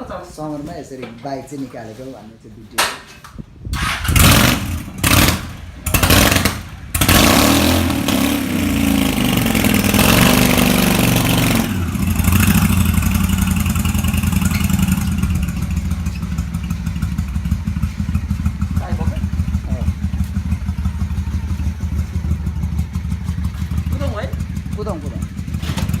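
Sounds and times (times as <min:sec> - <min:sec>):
motorcycle engine starting and revving: 0:03.6 - 0:26.0.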